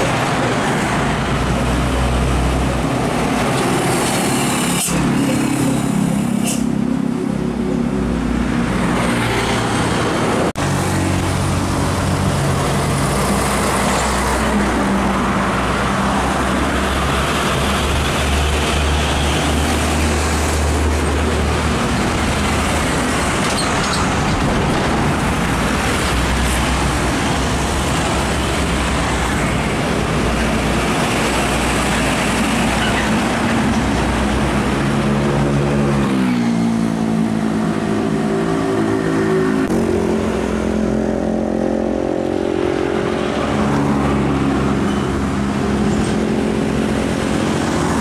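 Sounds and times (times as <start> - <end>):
heavy trucks passing: 0.0 - 48.0.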